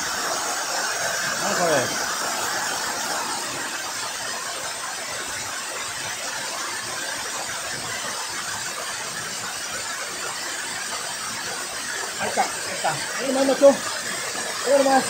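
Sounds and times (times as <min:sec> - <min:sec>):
waterfall rushing and splashing: 0:00.0 - 0:15.0.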